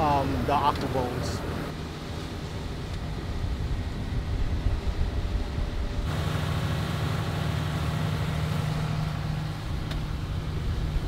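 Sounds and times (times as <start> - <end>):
boat engine rumbling: 0.0 - 11.0
wind: 0.0 - 11.0.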